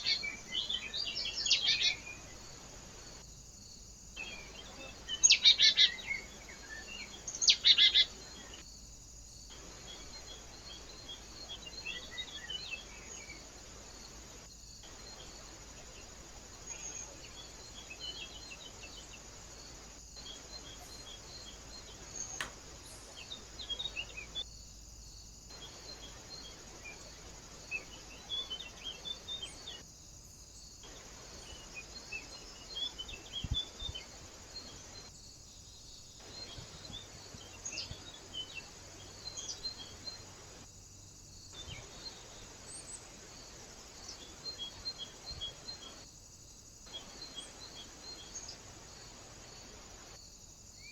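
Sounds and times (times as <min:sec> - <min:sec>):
insect chirping: 0:00.0 - 0:50.9.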